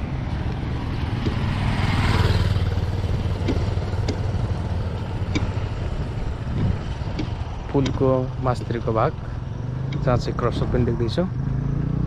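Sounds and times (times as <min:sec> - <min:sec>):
steady low rumble: 0:00.0 - 0:11.0
motorcycle passing by: 0:00.0 - 0:12.0.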